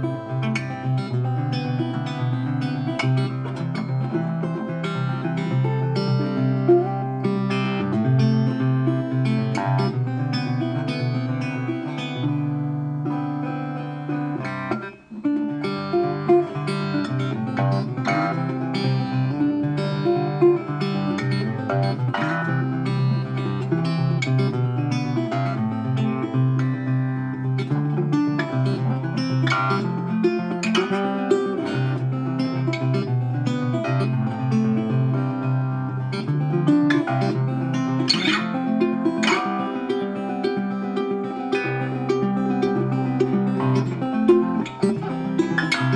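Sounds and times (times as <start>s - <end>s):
guitar plucked and strummed: 0.0s - 45.9s.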